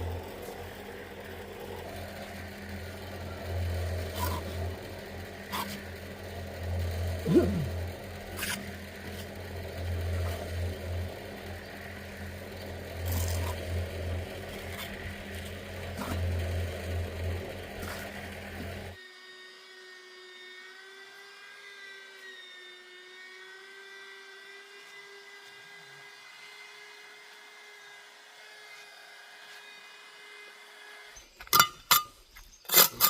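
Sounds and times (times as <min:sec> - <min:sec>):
small engine humming: 0:00.0 - 0:33.0.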